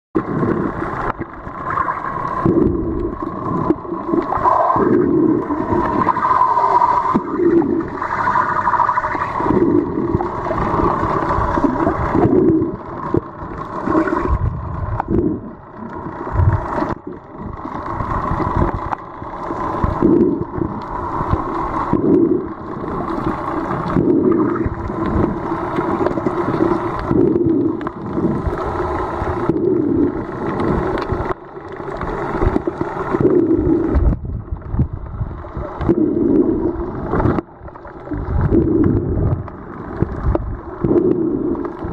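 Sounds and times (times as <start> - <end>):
muffled underwater rush and gurgle: 0.2 - 41.9.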